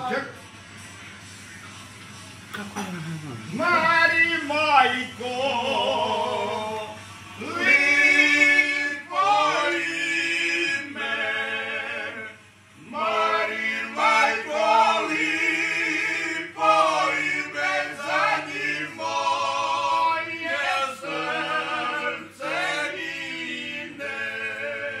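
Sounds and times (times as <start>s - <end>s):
men singing unaccompanied: 3.5s - 25.0s.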